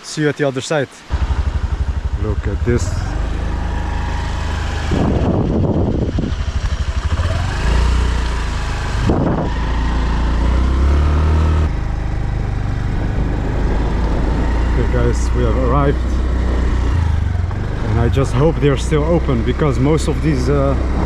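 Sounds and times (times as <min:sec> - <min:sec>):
motorbike engine running: 0:01.1 - 0:21.0
wind rushing: 0:01.5 - 0:19.4.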